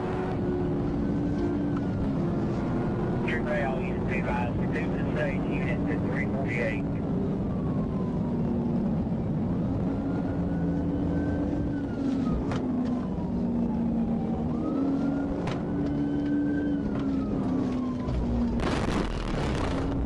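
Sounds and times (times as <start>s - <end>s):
car engine droning: 0.0s - 20.0s
police siren wailing: 0.0s - 20.0s.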